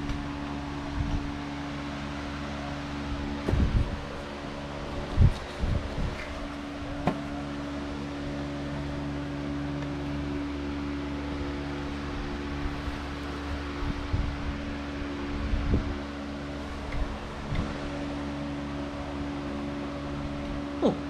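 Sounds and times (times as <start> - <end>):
mechanical hum with pitched tones: 0.0 - 21.0.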